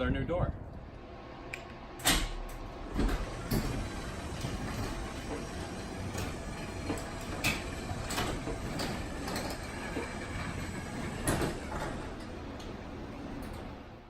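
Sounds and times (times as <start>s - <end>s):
garage door rumbling: 0.0s - 14.0s
rattles and clicks: 2.0s - 13.8s.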